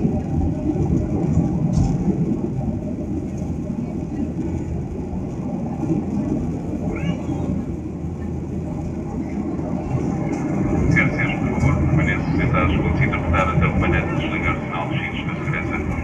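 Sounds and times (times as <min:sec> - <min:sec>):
jet engines rumbling in cabin: 0:00.0 - 0:16.0
rushing air: 0:00.0 - 0:16.0.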